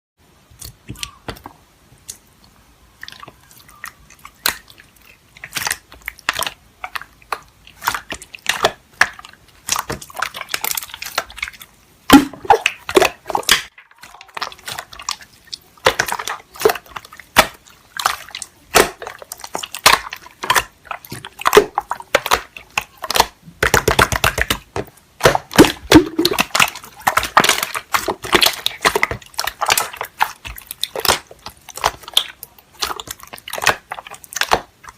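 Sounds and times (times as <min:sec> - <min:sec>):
slime squished by hand: 0:00.5 - 0:34.9.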